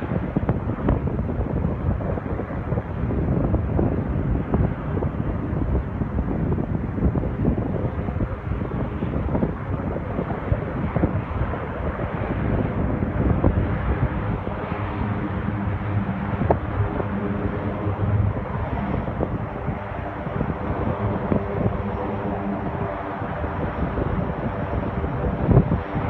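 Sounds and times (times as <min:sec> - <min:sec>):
turboprop engines droning: 0:00.0 - 0:26.0
wind buffeting microphone: 0:00.0 - 0:26.0.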